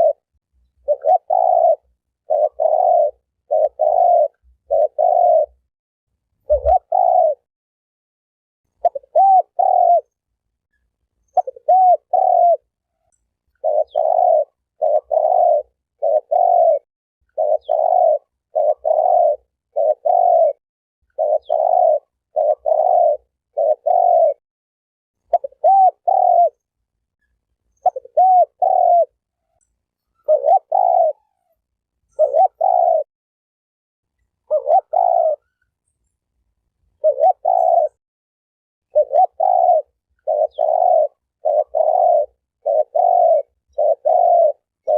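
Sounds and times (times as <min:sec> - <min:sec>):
dove cooing: 0:00.0 - 0:05.7, 0:06.4 - 0:07.5, 0:08.8 - 0:10.2, 0:11.3 - 0:24.4, 0:25.2 - 0:26.7, 0:27.7 - 0:33.1, 0:34.4 - 0:35.7, 0:37.0 - 0:38.0, 0:38.9 - 0:44.9.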